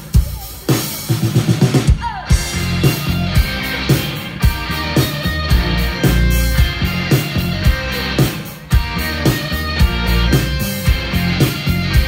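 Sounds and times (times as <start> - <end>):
drums: 0.0 - 12.0
electric guitar: 2.0 - 12.0
electric bass: 2.3 - 12.0.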